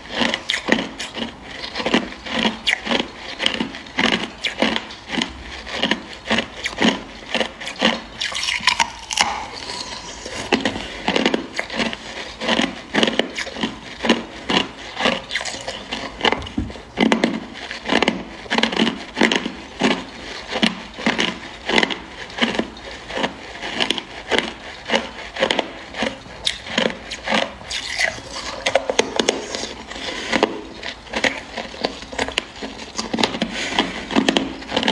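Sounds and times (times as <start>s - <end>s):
ice being chewed: 0.0s - 34.9s.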